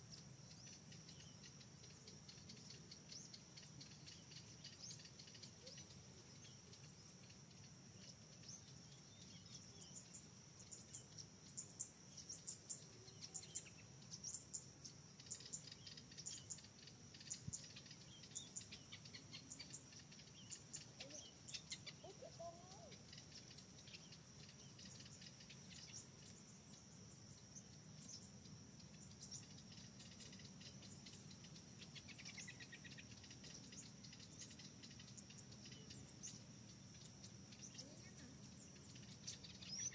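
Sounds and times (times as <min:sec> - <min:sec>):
faint bird-like calls: 0:00.0 - 0:14.6, 0:15.2 - 0:26.7, 0:28.0 - 0:39.9
insects droning: 0:00.0 - 0:39.9.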